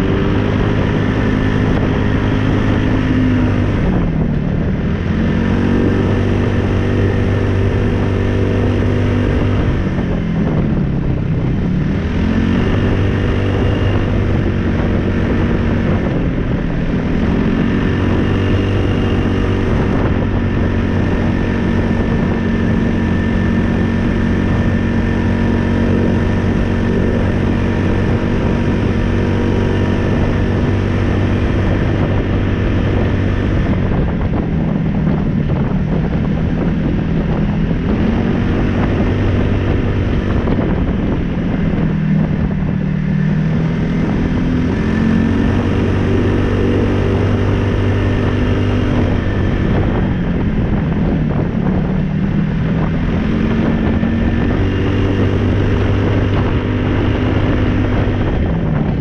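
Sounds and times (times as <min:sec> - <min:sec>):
single-cylinder engine running: 0:00.0 - 0:59.0.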